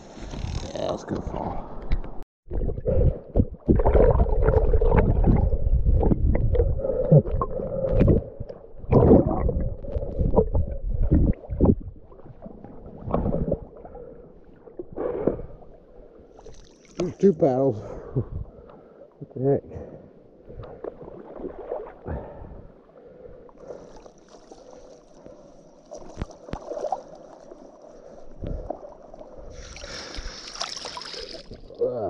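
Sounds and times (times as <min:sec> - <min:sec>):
muffled underwater river gurgling: 0:00.4 - 0:32.0.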